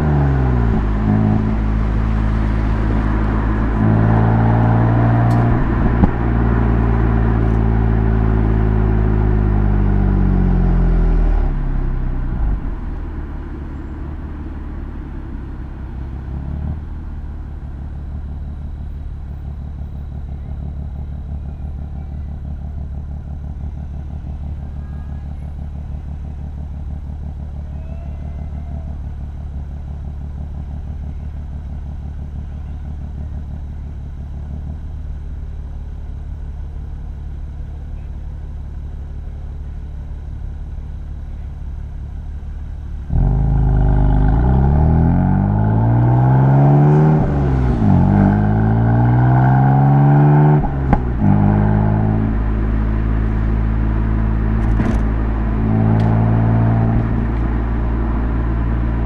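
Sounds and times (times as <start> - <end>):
car engine under throttle: 0.0 - 59.0
road noise: 0.0 - 59.0.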